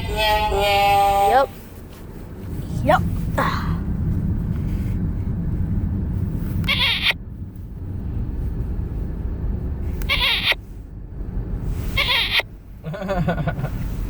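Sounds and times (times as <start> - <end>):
road rumble inside moving car: 0.0 - 14.0.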